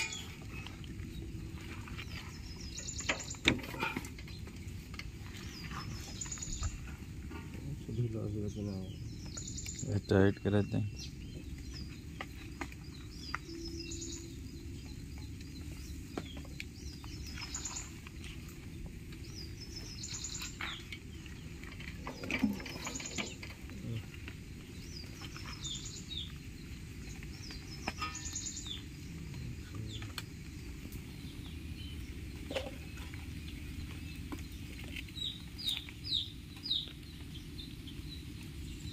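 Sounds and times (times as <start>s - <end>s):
low background rumble: 0.0s - 38.9s
small birds chirping: 0.0s - 38.9s.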